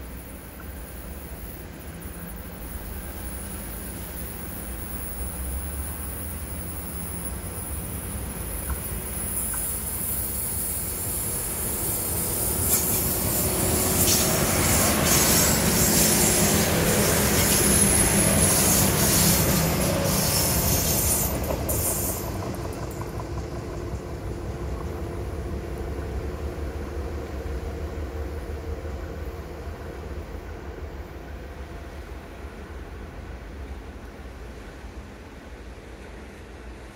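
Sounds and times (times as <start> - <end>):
train passing on rails: 0.0 - 36.9.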